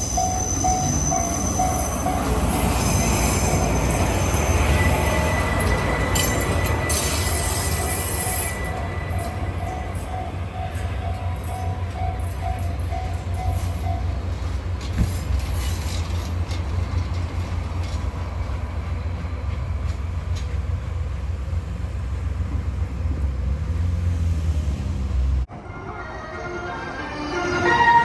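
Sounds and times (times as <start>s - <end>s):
train wheels clicking on rails: 0.0s - 24.8s
train passing rumble: 0.0s - 28.0s.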